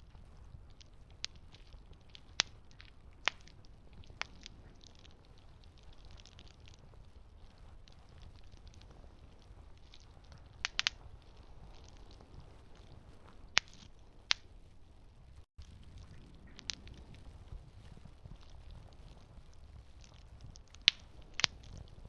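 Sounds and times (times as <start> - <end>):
campfire rumble: 0.0 - 22.0
wood popping and crackling: 0.0 - 22.0.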